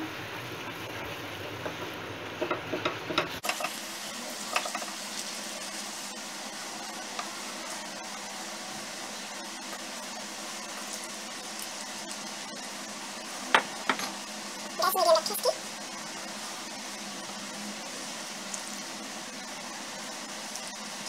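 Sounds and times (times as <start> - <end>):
batter sizzling in frying pan: 0.0 - 21.0.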